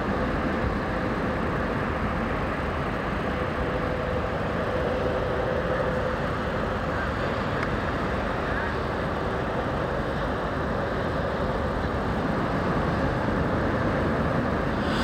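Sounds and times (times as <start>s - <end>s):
rumbling background noise: 0.0s - 15.0s.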